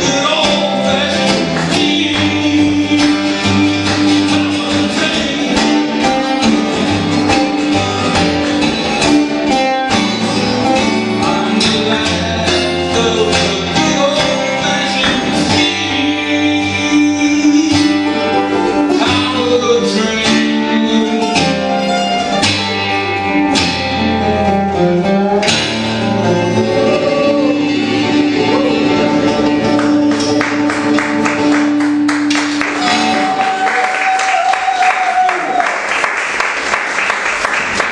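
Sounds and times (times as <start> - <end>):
acoustic guitars strummed and picked: 0.0 - 35.0.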